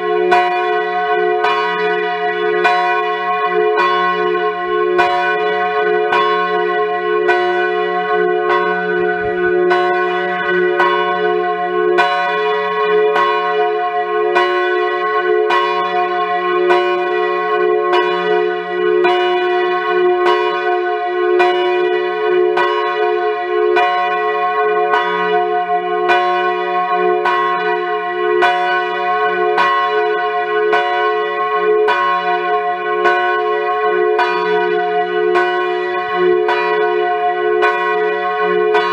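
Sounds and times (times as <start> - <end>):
large church bell ringing: 0.0 - 38.9.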